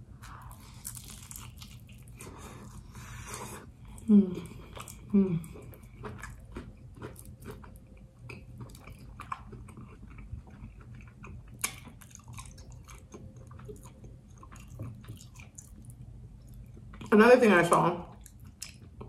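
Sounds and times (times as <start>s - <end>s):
person chewing: 0.2s - 17.1s, 18.2s - 19.0s.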